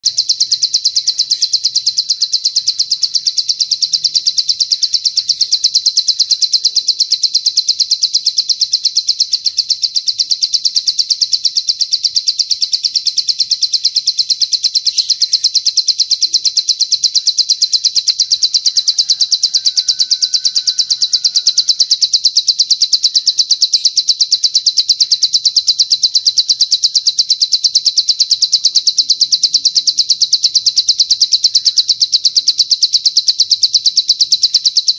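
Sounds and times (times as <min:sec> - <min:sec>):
bird high-pitched trill: 0:00.0 - 0:34.9.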